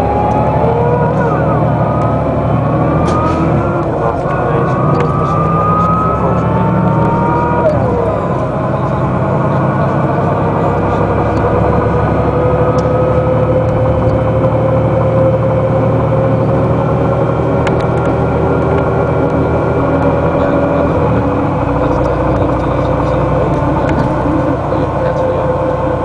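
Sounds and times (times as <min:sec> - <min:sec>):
bus engine drone with whine: 0:00.0 - 0:26.0.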